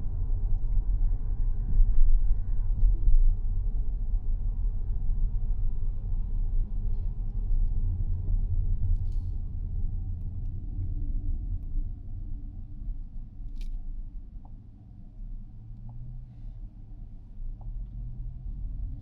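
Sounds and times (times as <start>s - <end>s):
car road and tyre rumble: 0.0s - 19.0s.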